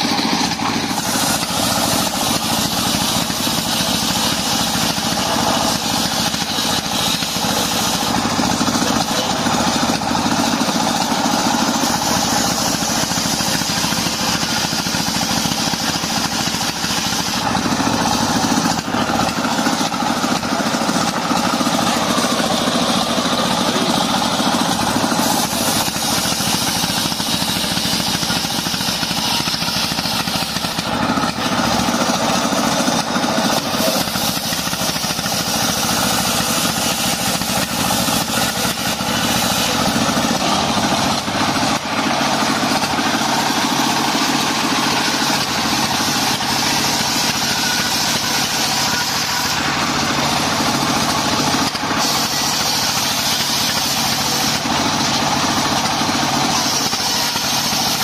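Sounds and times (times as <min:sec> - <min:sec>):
circular saw cutting wood: 0:00.0 - 0:58.0
diesel engine running: 0:00.0 - 0:58.0.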